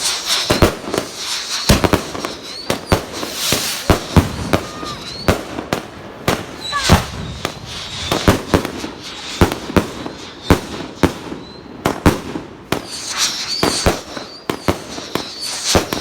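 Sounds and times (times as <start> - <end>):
firework bangs: 0.0 - 16.0
firework hissing and crackling: 0.0 - 16.0.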